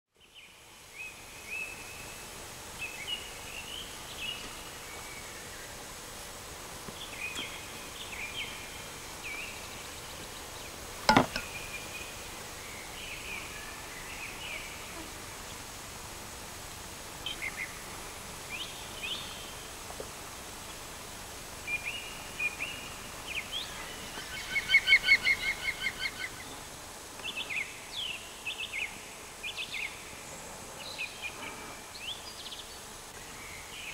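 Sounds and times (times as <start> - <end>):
steady hiss: 0.2 - 33.9.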